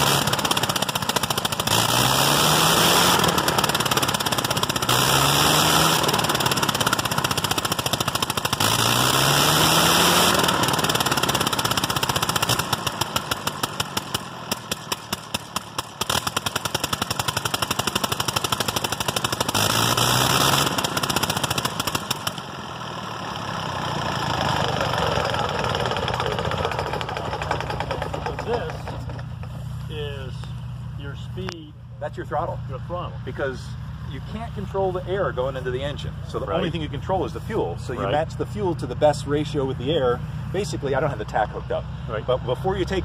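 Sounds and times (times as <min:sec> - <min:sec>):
rotary aircraft engine running: 0:00.0 - 0:43.0.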